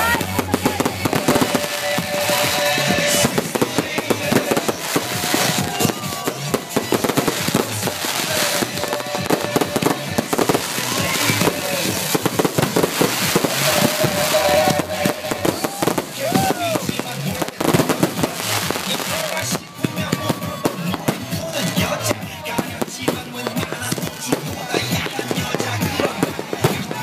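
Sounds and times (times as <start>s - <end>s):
firecrackers banging and crackling: 0.0s - 27.0s.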